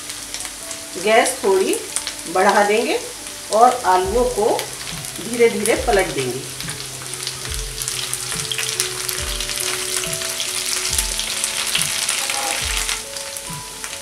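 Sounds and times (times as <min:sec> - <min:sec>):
potatoes sizzling in oil: 0:00.0 - 0:14.0.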